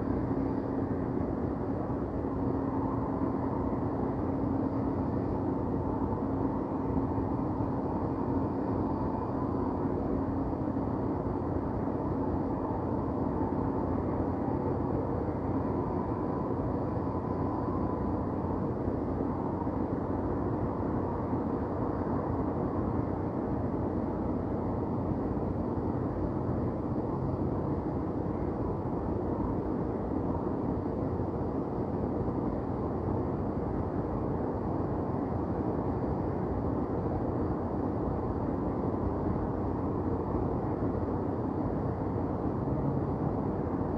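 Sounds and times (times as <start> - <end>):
low hum of city traffic: 0.0 - 43.9.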